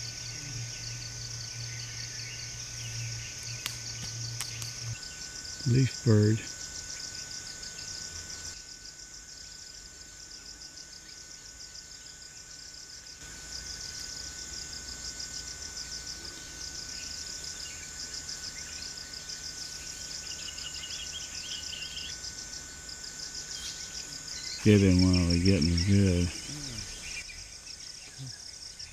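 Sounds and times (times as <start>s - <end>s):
insects buzzing: 0.0s - 28.9s.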